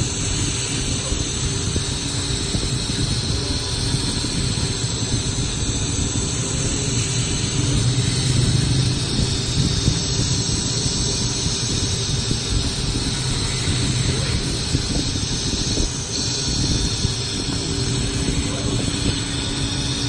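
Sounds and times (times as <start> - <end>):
laser cutting machine hum: 0.0 - 20.0.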